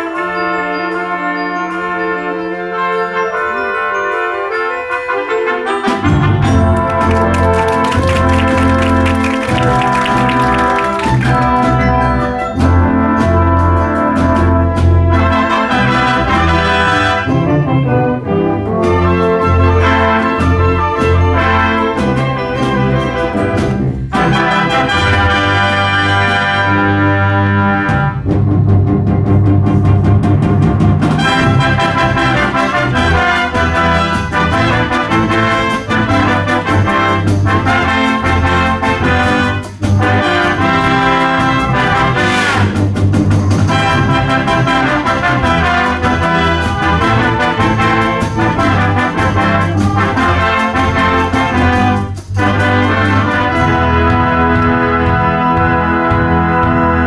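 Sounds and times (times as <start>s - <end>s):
trumpets and trombones: 0.0s - 57.0s
wind band playing: 0.0s - 57.0s.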